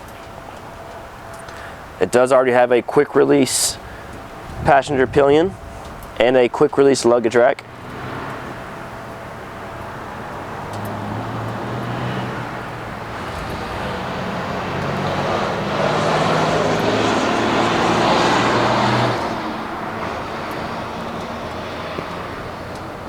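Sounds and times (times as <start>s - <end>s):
road vehicle passing by: 0.0s - 23.0s.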